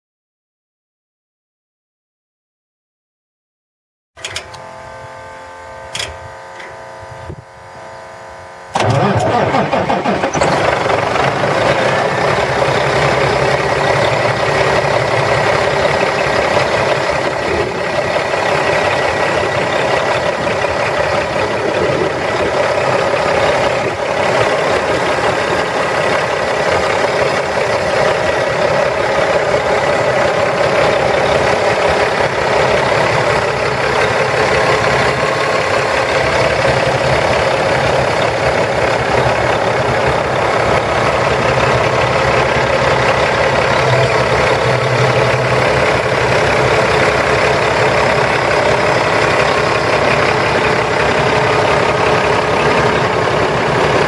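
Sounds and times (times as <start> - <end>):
diesel truck engine idling: 8.7 - 54.0.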